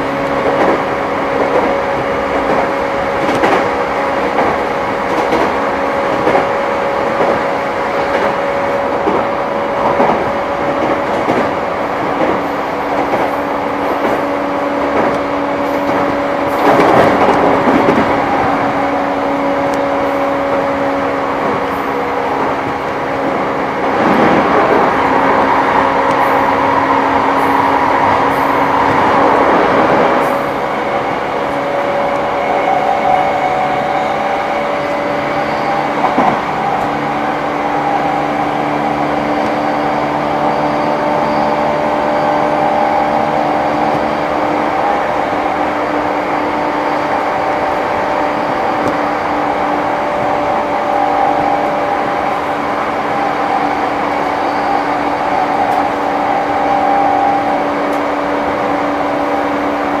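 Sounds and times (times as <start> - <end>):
humming from train running gear: 0.0 - 60.0
train wheels rumbling on rail: 0.0 - 60.0.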